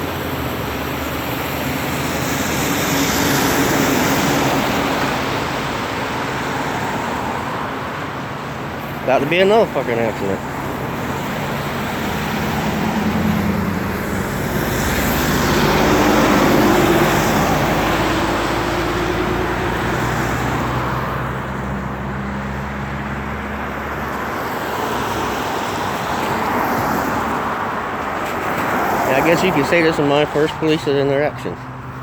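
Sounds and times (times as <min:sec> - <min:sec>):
tyres hissing on wet road: 0:00.0 - 0:07.8, 0:08.7 - 0:21.7, 0:22.6 - 0:30.8
vehicle engines running: 0:00.0 - 0:32.0.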